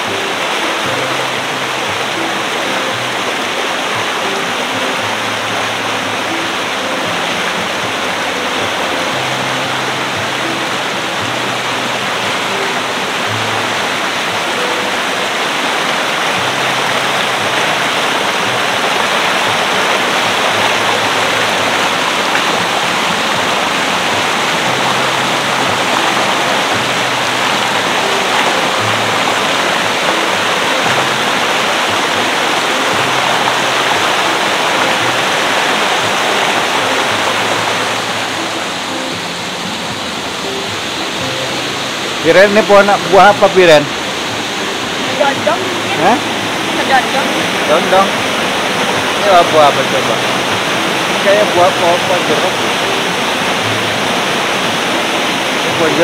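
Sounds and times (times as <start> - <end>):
faint background music: 0.0 - 56.0
rushing river water: 0.0 - 56.0.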